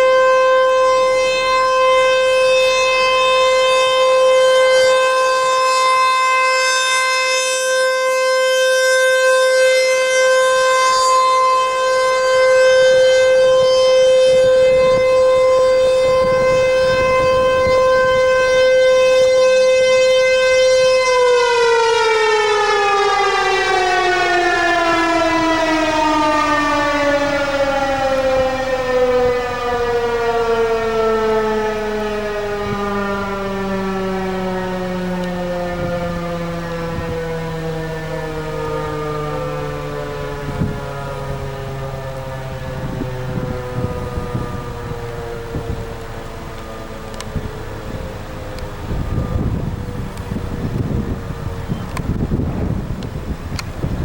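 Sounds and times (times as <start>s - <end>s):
warning siren winding down: 0.0s - 54.0s.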